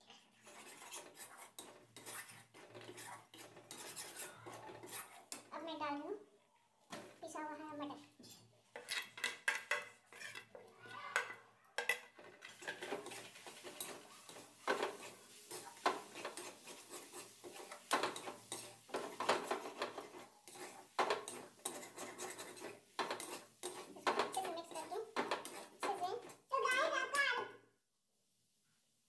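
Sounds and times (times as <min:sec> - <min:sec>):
metal spatula scraping a pan: 0:00.0 - 0:06.0, 0:07.0 - 0:27.2.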